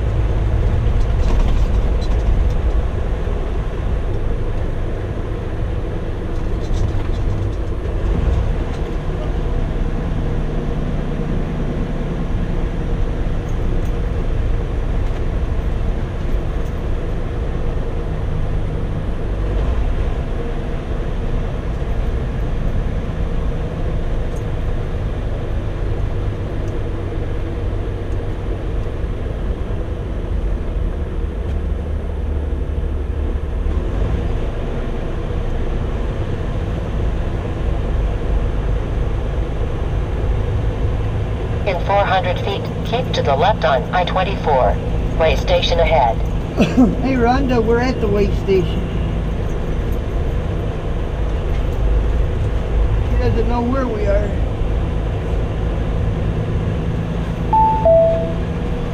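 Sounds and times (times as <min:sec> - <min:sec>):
truck engine and road noise: 0:00.0 - 0:58.9.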